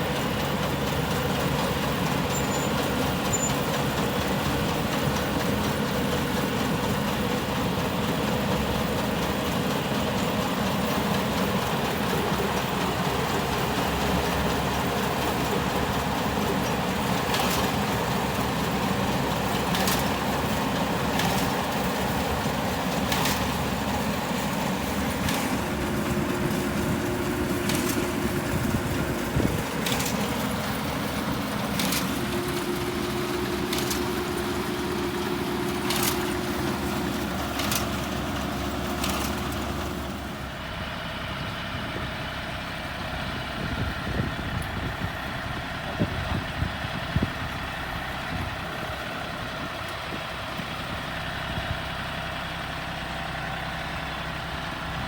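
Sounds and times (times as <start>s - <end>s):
combine harvester humming: 0.0s - 55.0s.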